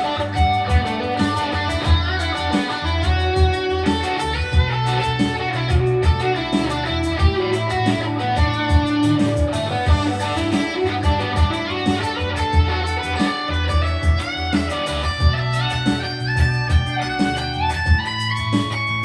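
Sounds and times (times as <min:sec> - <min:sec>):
instrumental guitar music with beat: 0:00.0 - 0:19.0.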